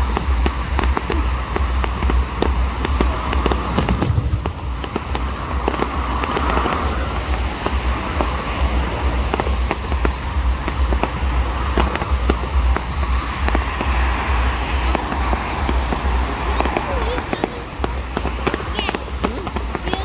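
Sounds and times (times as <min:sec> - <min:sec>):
fireworks cracking and banging: 0:00.0 - 0:20.0
low rumble: 0:00.0 - 0:20.0.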